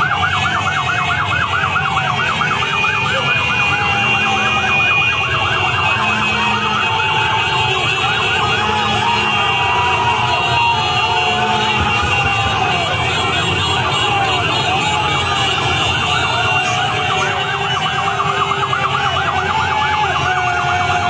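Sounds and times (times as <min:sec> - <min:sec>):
motorcycle engines rumbling: 0:00.0 - 0:21.0
sirens yelping and wailing: 0:00.0 - 0:21.0.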